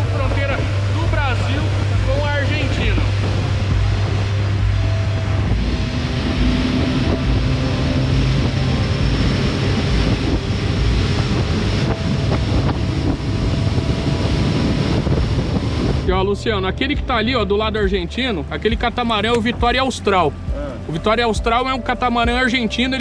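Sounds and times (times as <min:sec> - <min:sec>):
wind and water rushing: 0:00.0 - 0:22.9
outboard motor running: 0:00.0 - 0:23.0.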